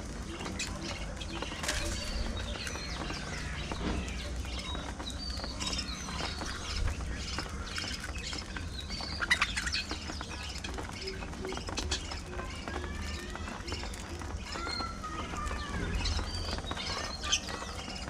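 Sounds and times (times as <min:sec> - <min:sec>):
budgerigars chirping and chattering: 0:00.0 - 0:18.0.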